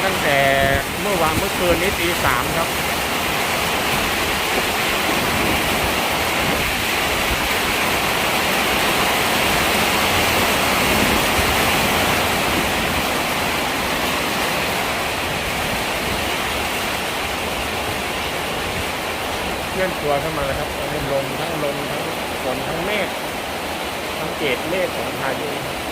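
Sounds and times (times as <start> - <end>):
heavy rain hissing: 0.0 - 25.9.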